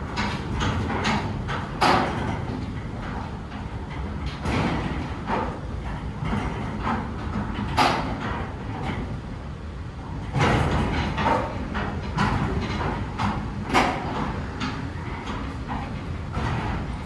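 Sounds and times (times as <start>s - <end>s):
machinery clanks and rattles: 0.0s - 17.0s
machinery low hum: 0.0s - 17.0s.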